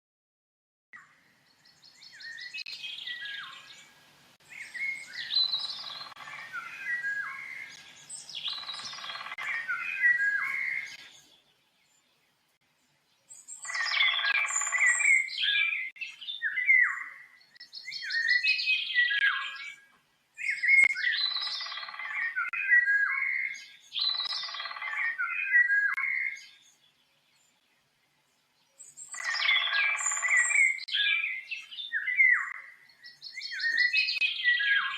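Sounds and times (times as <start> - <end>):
songbird singing: 0.9 - 34.9.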